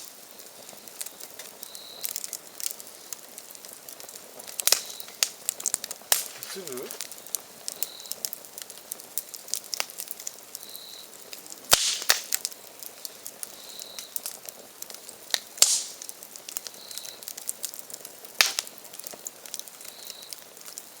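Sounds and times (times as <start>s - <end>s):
campfire crackling: 0.0s - 21.0s
firewood popping: 0.0s - 21.0s.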